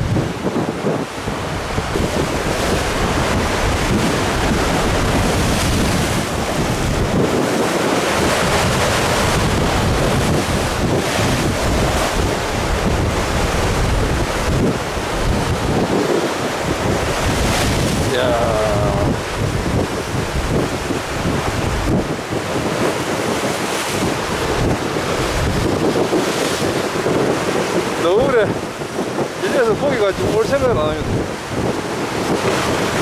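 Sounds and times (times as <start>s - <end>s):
waves breaking against rocks: 0.0s - 33.0s
wind buffeting microphone: 0.0s - 33.0s.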